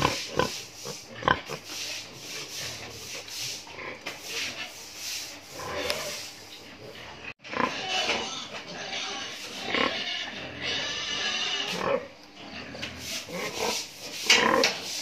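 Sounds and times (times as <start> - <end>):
pigs grunting and squealing: 0.0 - 4.8, 5.4 - 15.0.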